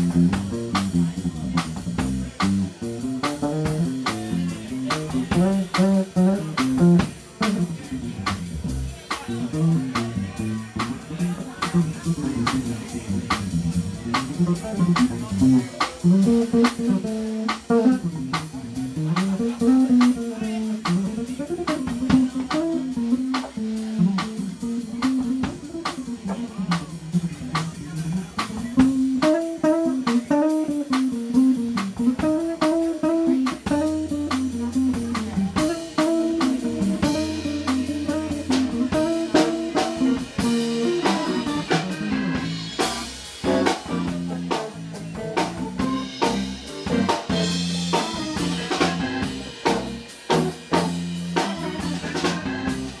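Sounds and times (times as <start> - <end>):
live band playing: 0.0 - 53.0.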